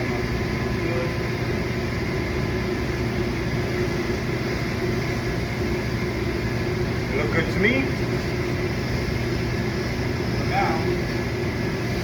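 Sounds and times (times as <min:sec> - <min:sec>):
mechanical hum with hiss: 0:00.0 - 0:12.0.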